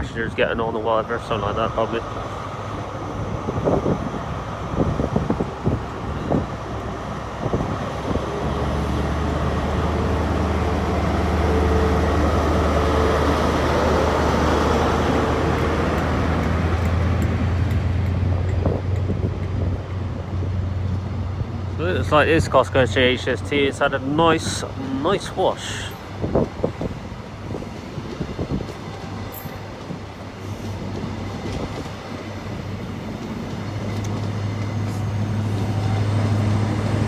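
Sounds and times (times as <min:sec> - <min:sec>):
diesel train engine drone: 0:00.0 - 0:37.0.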